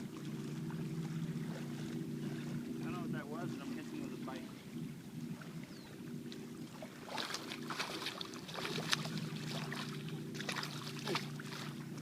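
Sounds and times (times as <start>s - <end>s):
boat motor running: 0.0s - 12.0s
water splashing: 0.0s - 12.0s.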